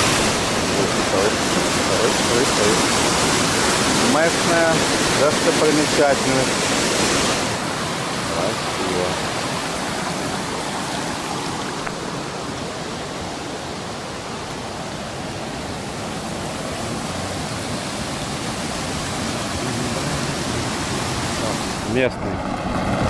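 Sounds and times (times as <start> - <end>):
waterfall rushing and splashing: 0.0 - 23.0.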